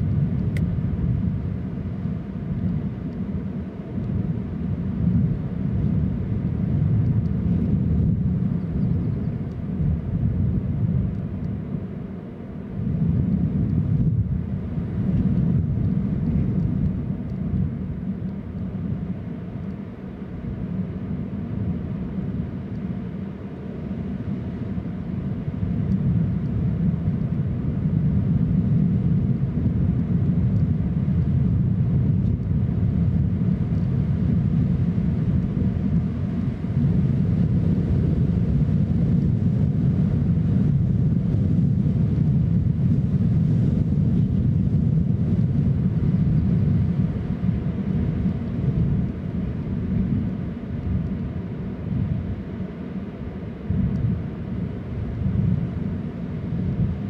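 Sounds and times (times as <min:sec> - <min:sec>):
wind buffeting microphone: 0:00.0 - 0:19.5, 0:24.0 - 0:57.0.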